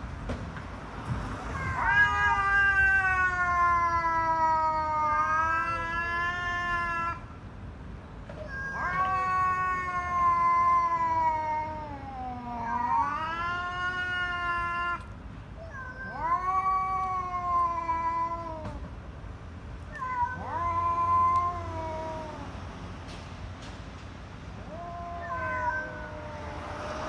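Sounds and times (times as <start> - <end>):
cat yowling: 1.4 - 7.3, 8.4 - 19.0, 19.8 - 22.7, 24.6 - 27.0.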